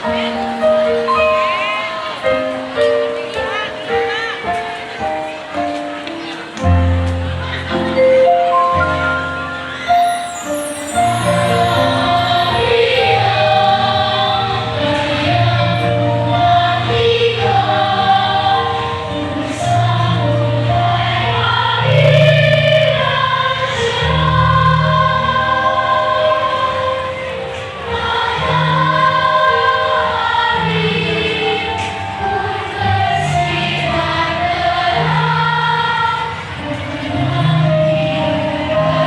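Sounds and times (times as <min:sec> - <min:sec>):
choir singing: 0:07.3 - 0:39.0.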